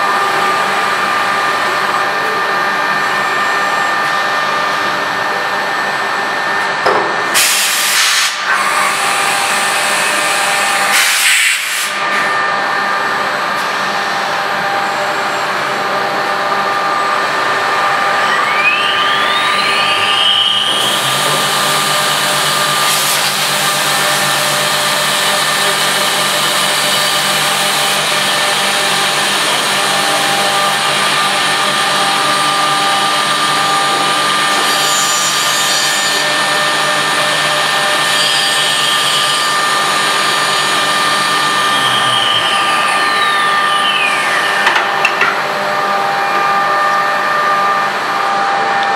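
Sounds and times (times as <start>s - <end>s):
machine hum: 0.0s - 7.4s, 11.9s - 48.9s
machine spindle whining: 0.0s - 7.4s, 8.4s - 48.9s.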